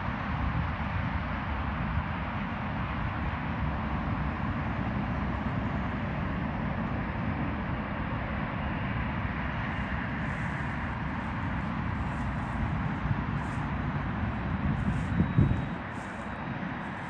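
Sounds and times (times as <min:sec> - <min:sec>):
distant jet engines running: 0:00.0 - 0:17.0.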